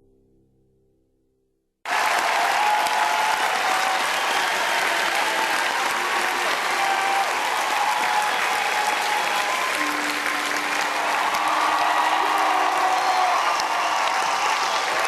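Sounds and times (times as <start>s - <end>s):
audience applauding: 1.9s - 15.0s.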